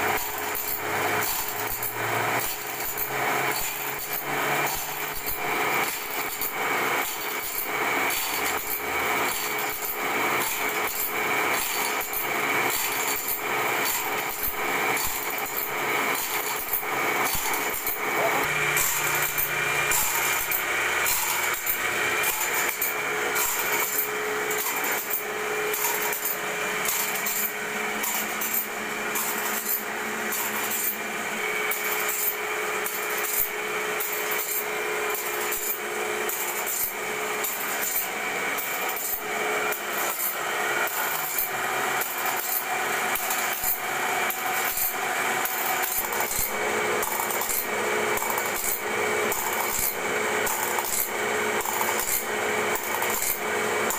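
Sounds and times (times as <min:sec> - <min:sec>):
grinding wheel rasping strokes: 0:00.0 - 0:53.9
steady motor hum: 0:00.0 - 0:53.9.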